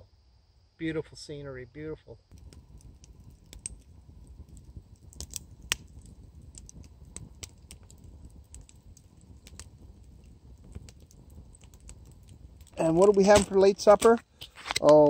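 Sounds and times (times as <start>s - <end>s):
faint low rumble: 0.0s - 14.1s
campfire crackling: 2.3s - 15.0s.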